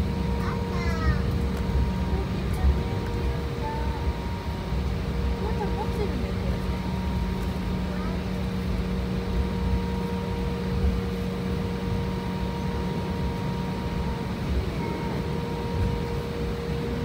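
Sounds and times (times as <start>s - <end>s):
jet engines idling hum: 0.0s - 17.0s.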